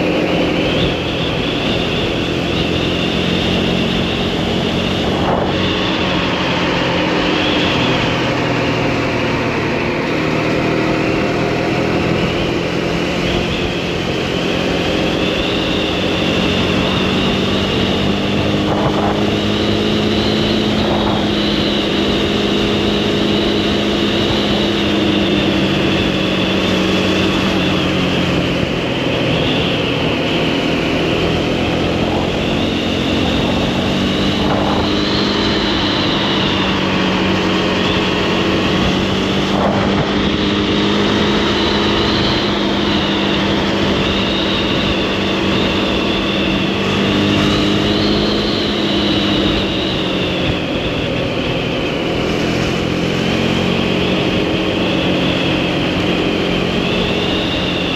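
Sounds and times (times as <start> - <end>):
wind on microphone: 0.0 - 9.7, 11.4 - 57.9
motorcycle engine running: 0.0 - 57.9.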